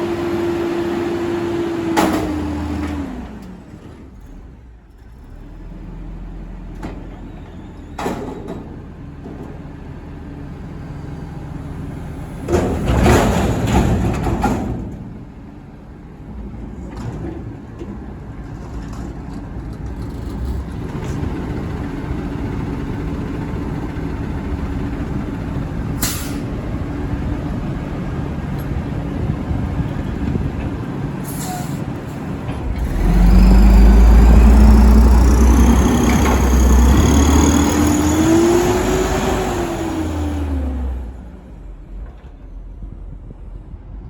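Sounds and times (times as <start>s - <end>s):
garbage truck diesel engine: 0.0s - 44.0s.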